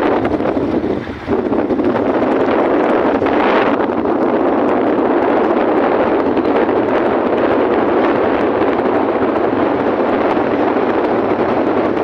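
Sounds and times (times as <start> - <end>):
wind and rain rushing over microphone: 0.0 - 12.0.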